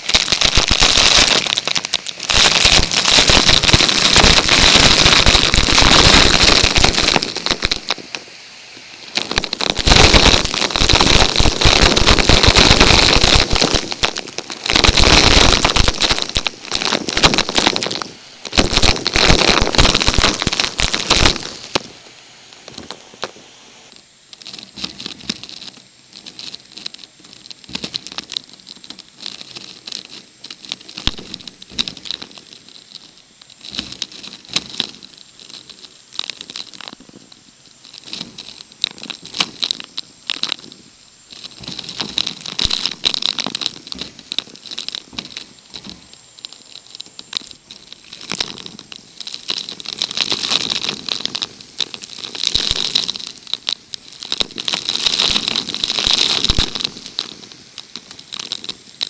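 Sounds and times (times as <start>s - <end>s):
loud crackling and crunching: 0.0s - 59.0s.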